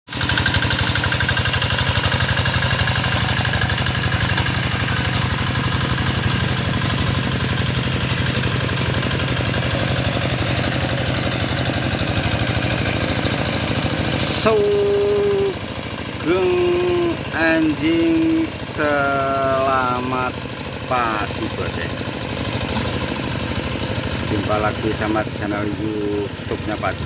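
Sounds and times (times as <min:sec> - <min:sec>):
diesel tractor engine running: 0:00.1 - 0:27.0.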